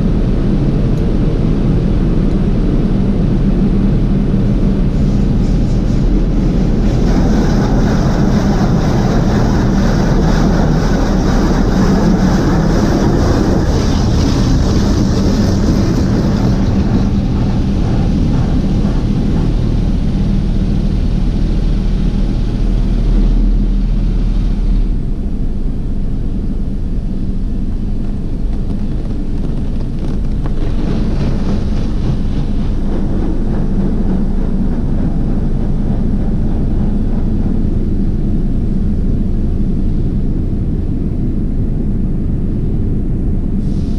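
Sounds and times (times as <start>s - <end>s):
car wash spray rushing: 0.0s - 41.0s, 43.6s - 43.9s
low machinery hum: 0.0s - 43.9s.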